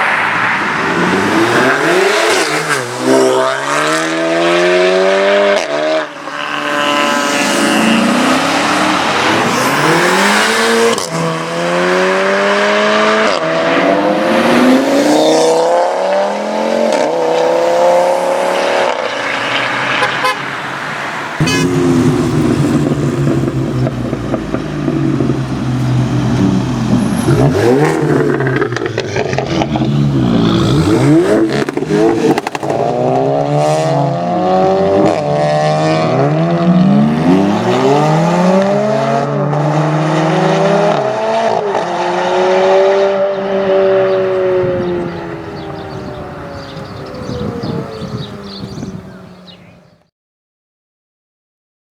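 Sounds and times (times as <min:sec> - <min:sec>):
cars accelerating hard: 0:00.0 - 0:50.0.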